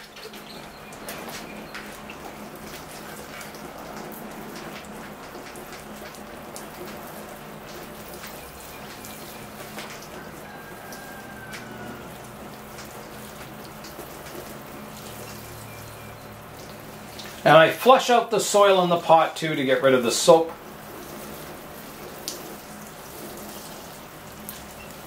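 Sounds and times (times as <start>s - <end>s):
water splashing on leaves and gravel: 1.2s - 25.0s.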